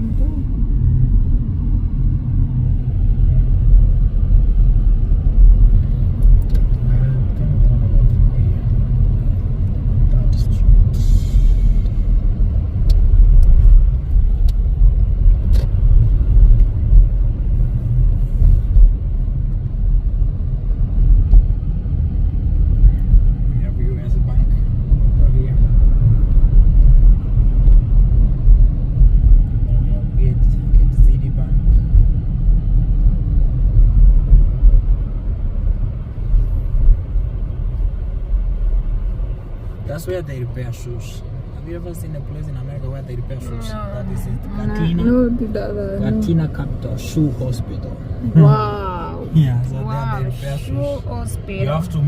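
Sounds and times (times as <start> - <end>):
car interior engine and road noise: 0.0 - 52.0.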